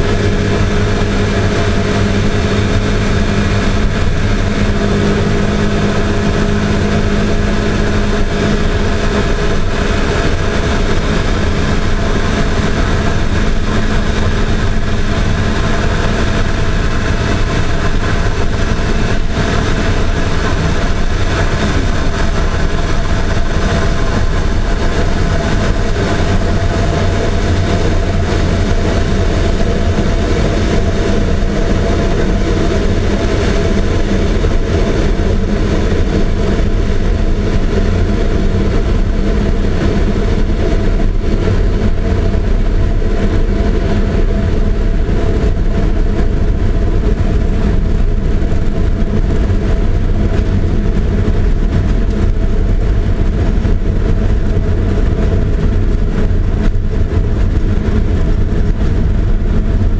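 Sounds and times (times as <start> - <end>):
loud engine and wind drone: 0.0 - 59.9.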